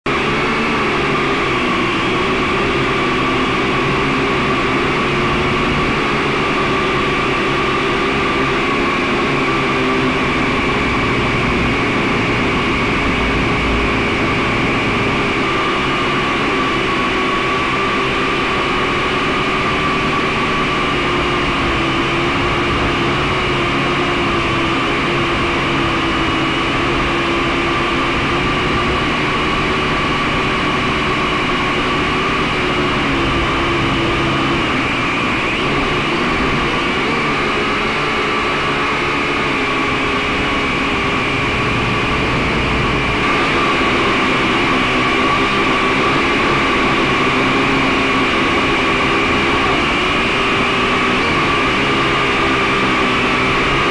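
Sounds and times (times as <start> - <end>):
drone propellers whining: 0.1 - 53.9.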